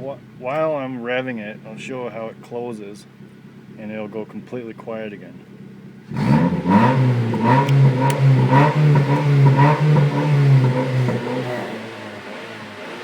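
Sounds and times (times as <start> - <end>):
car engine idling: 0.0 - 13.0
car engine revving: 0.0 - 13.0.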